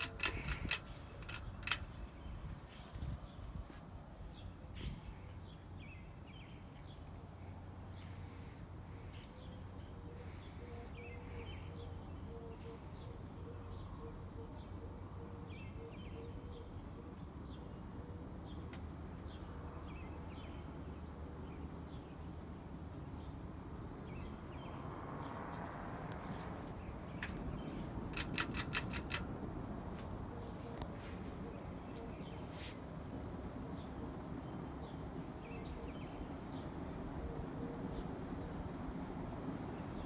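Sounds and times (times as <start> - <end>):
birds chirping: 0.0 - 20.7, 26.1 - 38.2.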